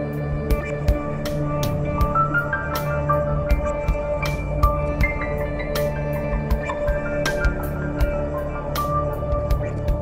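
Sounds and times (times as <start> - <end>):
background music with held tones: 0.0 - 10.0.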